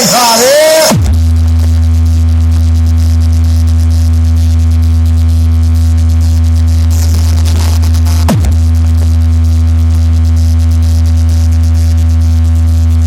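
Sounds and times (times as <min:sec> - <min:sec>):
deep bass tone over speakers: 0:00.0 - 0:13.0.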